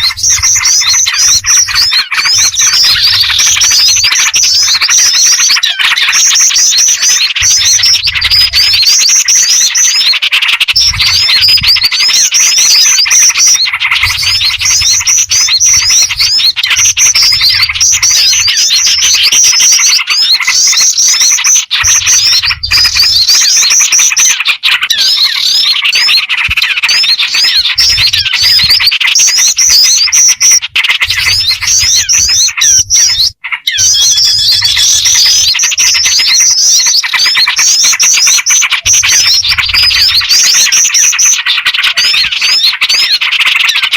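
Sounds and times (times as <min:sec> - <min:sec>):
birds chirping and trilling: 0:00.0 - 0:43.9.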